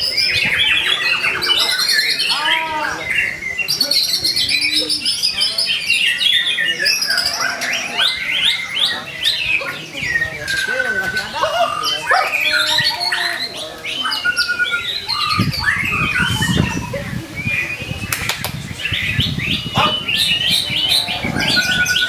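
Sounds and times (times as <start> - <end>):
bird singing whistles and chirps: 0.0 - 22.0.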